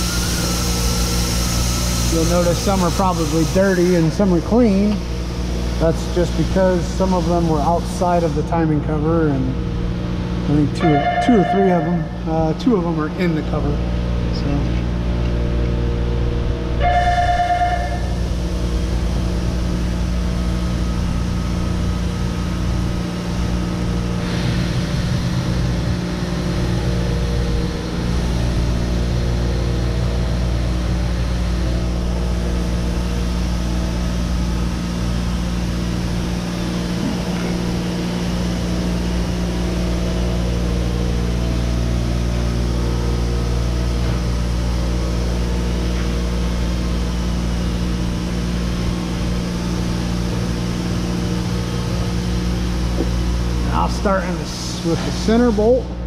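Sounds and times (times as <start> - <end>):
machine hum with electric buzz: 0.0 - 56.0.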